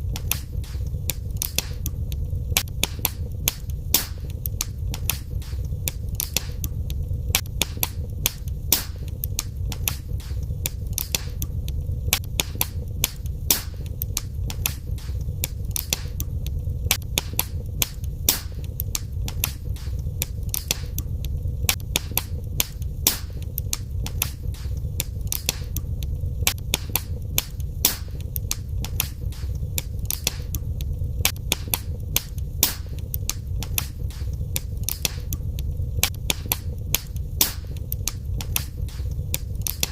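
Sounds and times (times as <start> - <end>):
fire crackling and popping: 0.0 - 39.9
wood fire burning: 0.0 - 39.9.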